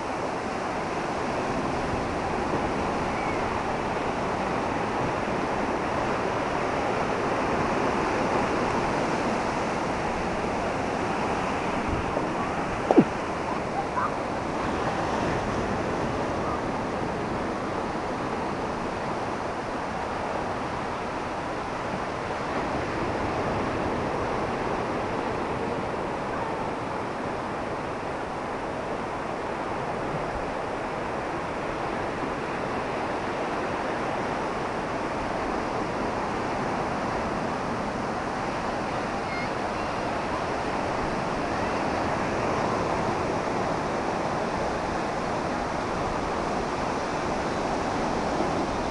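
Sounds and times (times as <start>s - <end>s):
surf breaking on shore: 0.0s - 48.9s.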